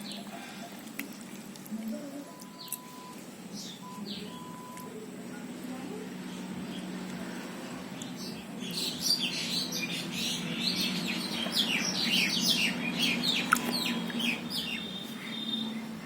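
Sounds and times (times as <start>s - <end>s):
small birds chirping: 0.0s - 0.7s, 1.9s - 16.0s.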